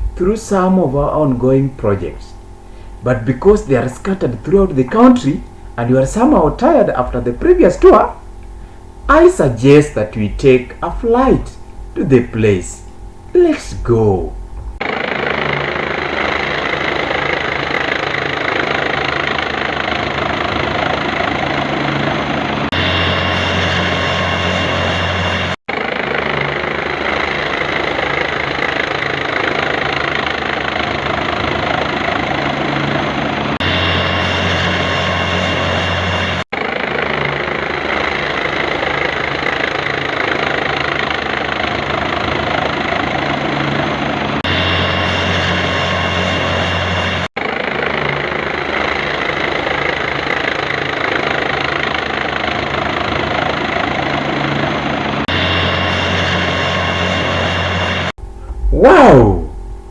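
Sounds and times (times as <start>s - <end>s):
helicopter in flight: 0.0s - 59.9s.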